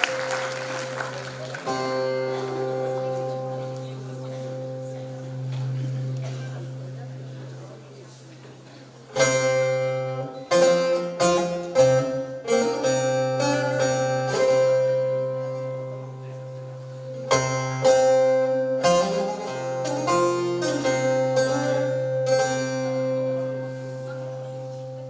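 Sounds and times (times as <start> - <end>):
long-necked lute plucked notes: 0.0 - 25.0.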